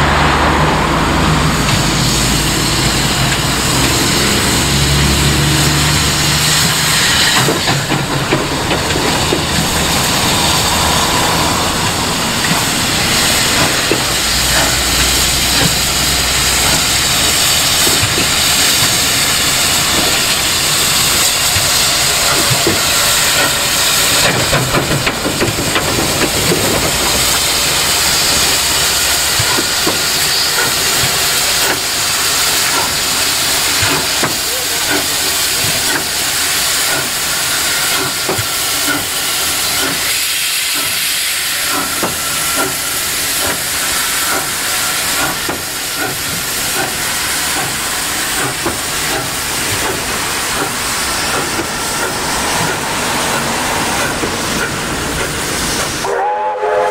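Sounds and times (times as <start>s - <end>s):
carriages clicking over track: 0.0s - 56.1s
steam locomotive hissing: 0.0s - 56.9s.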